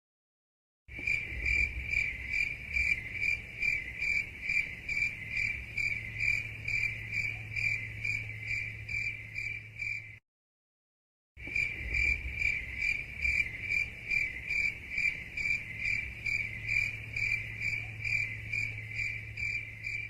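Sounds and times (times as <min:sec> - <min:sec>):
crickets chirping: 0:00.9 - 0:10.2, 0:11.4 - 0:20.0.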